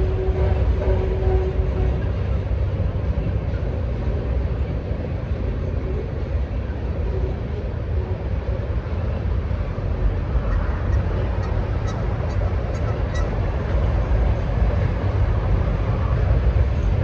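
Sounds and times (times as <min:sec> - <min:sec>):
diesel locomotive engine rumbling: 0:00.0 - 0:17.0.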